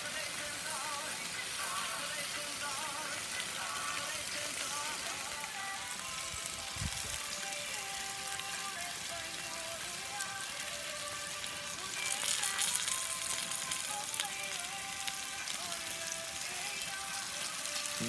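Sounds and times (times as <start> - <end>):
food sizzling on a grill: 0.0 - 18.0.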